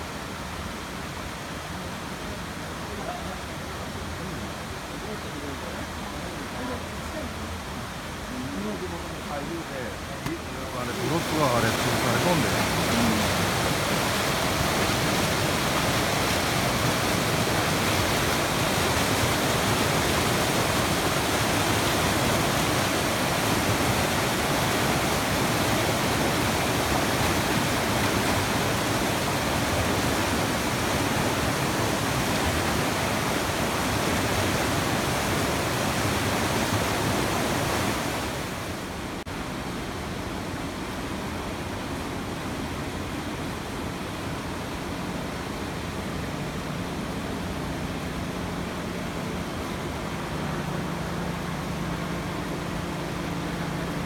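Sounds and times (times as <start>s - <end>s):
floodwater rushing through debris: 0.0s - 54.0s.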